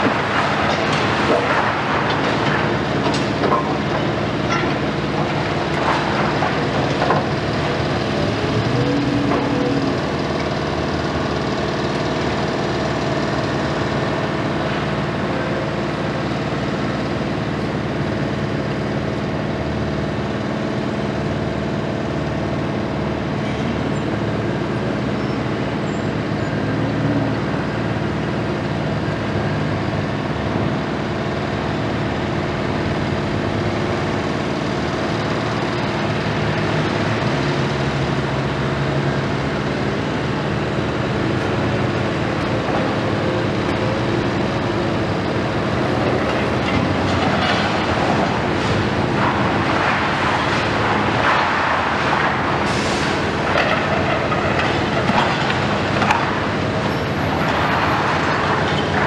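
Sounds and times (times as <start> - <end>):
excavator diesel engine: 0.0 - 59.0
truck engine: 0.0 - 59.0.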